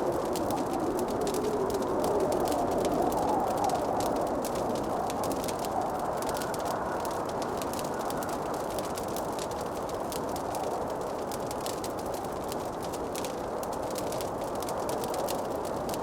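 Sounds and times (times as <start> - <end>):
fire rushing hiss: 0.0 - 16.0
wood fire crackling and popping: 0.0 - 16.0.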